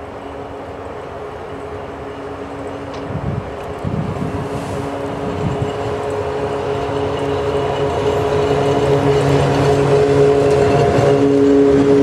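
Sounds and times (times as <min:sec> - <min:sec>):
electric locomotive hum: 0:00.0 - 0:12.0
train wheels rumbling on rail: 0:00.0 - 0:12.0.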